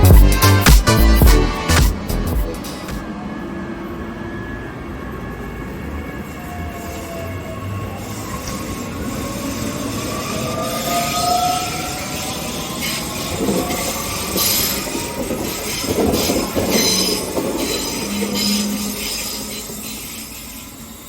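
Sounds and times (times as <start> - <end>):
train wheels rumbling on rails: 2.6 - 21.0.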